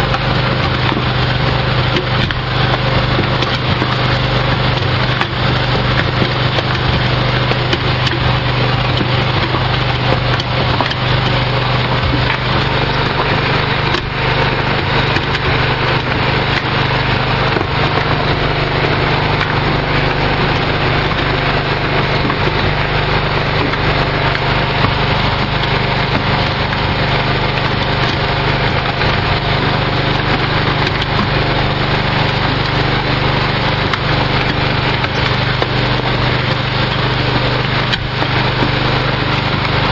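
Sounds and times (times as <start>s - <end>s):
dense gritty rattle: 0.0s - 39.9s
mixer low hum: 0.0s - 39.9s.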